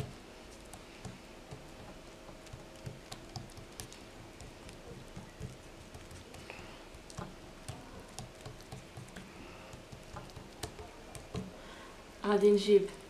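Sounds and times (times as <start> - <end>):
fingers patting dough: 0.0 - 11.7.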